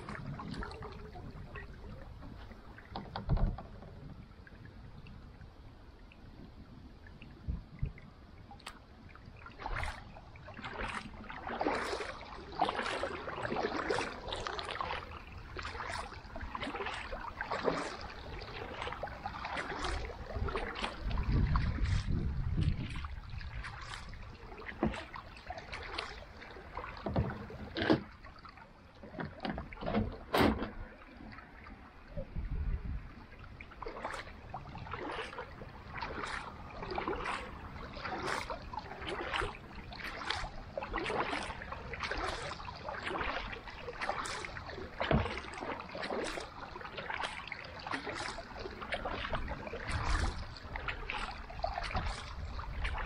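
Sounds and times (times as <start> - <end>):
paddle splashing through water: 0.0 - 53.0.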